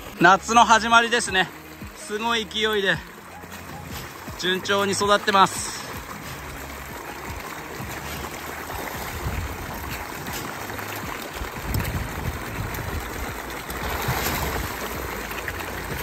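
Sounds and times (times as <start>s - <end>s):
fish splashing water: 1.2s - 16.0s.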